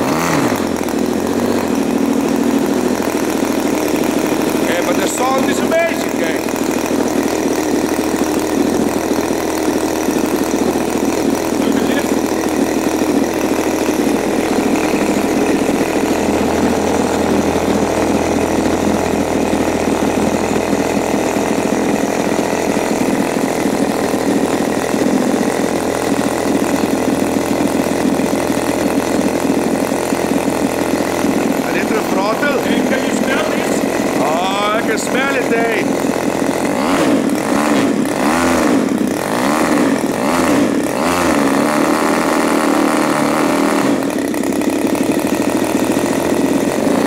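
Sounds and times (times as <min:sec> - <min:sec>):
two-stroke engine running: 0:00.0 - 0:47.0.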